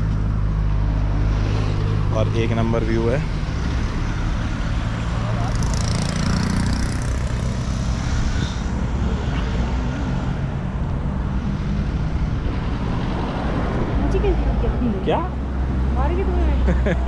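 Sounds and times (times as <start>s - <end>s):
car driving on road rumble: 0.0s - 17.0s.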